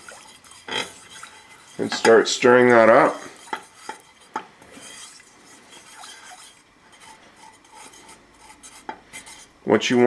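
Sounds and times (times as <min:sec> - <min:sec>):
spatula scraping saucepan: 0:00.0 - 0:10.0.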